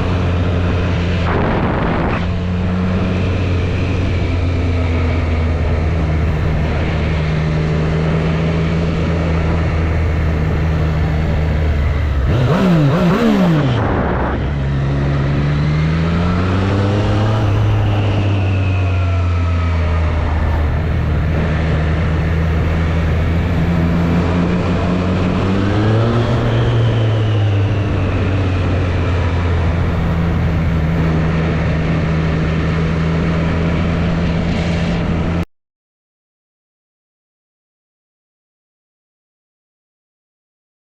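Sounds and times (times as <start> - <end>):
motorcycle engine running: 0.0 - 35.4.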